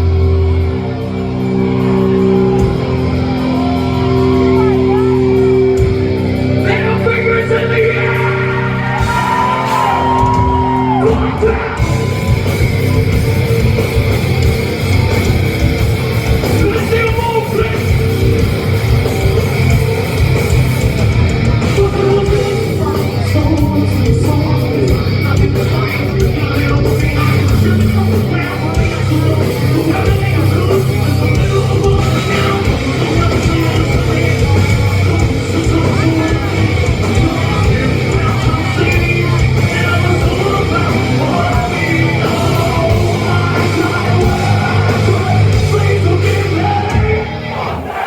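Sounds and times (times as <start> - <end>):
bass and drums: 0.0 - 48.0
distorted electric guitars: 0.0 - 48.0
yelled vocals: 0.0 - 48.0.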